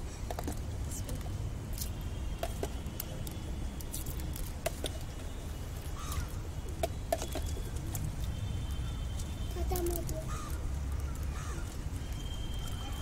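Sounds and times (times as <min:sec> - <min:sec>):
plastic toys clicking and tapping: 0:00.2 - 0:05.1, 0:06.1 - 0:08.4, 0:09.2 - 0:13.0.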